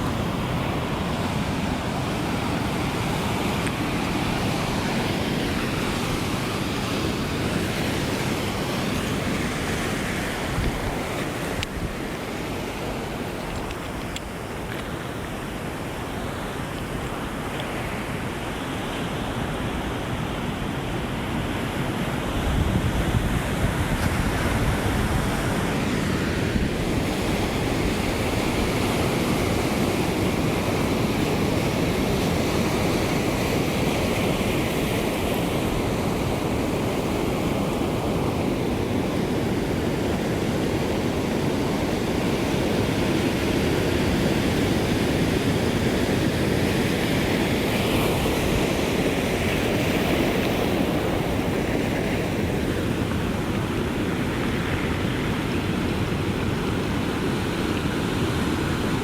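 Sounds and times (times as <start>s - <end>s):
ocean surf washing on shore: 0.0s - 59.0s.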